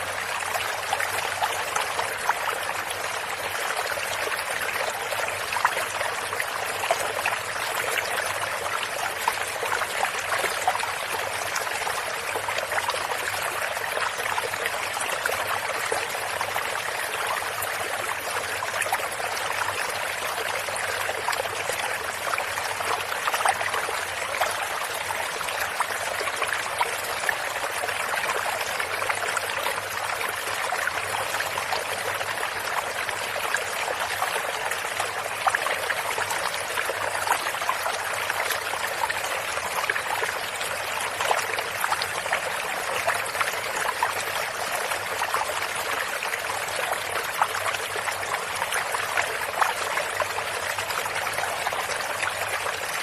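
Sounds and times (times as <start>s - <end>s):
stream splashing over stones: 0.0s - 53.0s.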